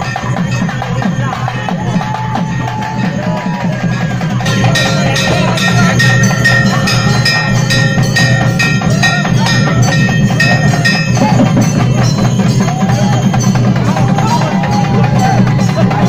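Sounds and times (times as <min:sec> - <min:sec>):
loud fast drumming: 0:00.0 - 0:16.0.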